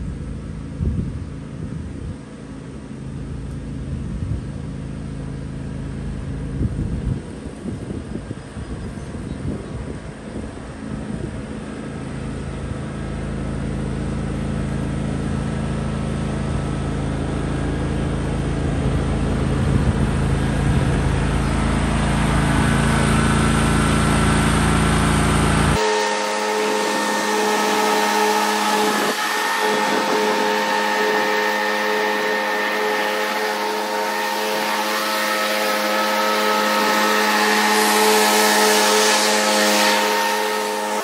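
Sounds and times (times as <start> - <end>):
lawn tractor mower running: 0.0 - 8.6, 9.7 - 41.0.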